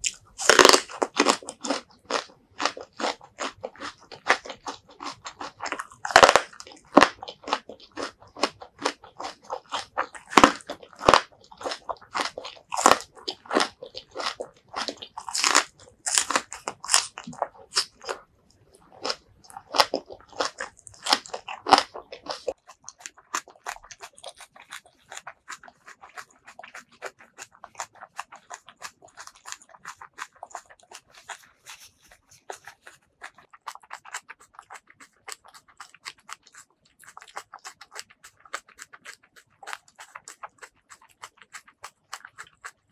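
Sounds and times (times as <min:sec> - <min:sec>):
crunchy biting and chewing: 0:00.0 - 0:42.9
soft chewing and mouth sounds: 0:00.0 - 0:42.9.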